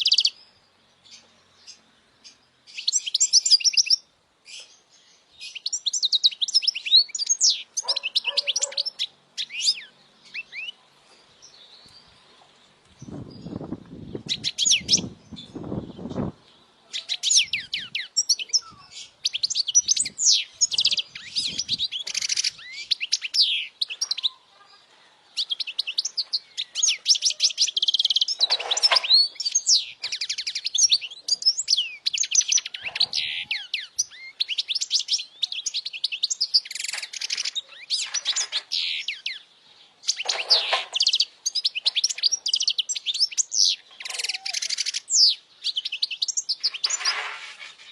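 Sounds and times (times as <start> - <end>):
bird twittering chirps and trills: 0.0 - 47.9.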